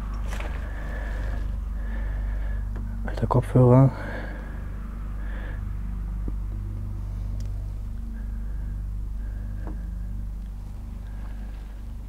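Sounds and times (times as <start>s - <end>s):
motorway traffic drone: 0.0s - 12.0s.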